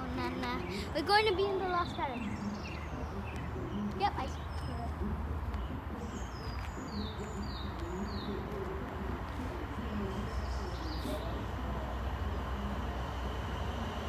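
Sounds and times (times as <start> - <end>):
small birds singing: 0.0 - 14.0.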